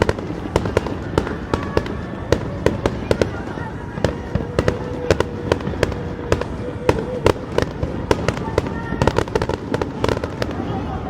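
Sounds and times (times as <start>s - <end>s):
continuous rumble: 0.0s - 11.0s
fireworks bangs and crackles: 0.0s - 11.0s.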